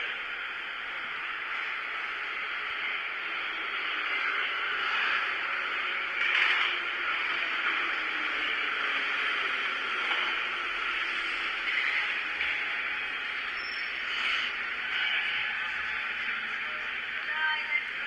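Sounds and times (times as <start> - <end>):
rushing noise inside metro car: 0.0 - 18.0.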